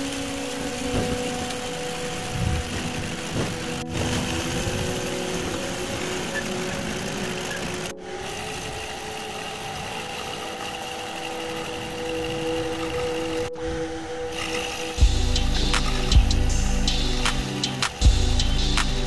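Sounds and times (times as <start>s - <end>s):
milling machine cutting metal: 0.0s - 13.6s, 14.2s - 19.0s
humming motor: 0.0s - 19.0s.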